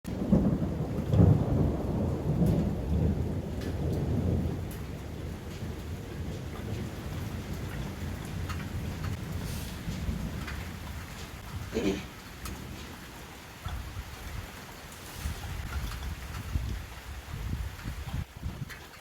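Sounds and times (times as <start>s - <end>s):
thunder rumbling: 0.1s - 18.7s
steady rain: 0.1s - 19.0s.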